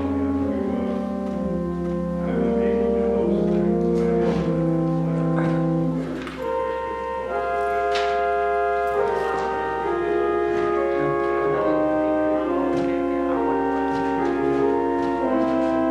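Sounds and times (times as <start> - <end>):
organ playing slow chords: 0.0 - 15.9.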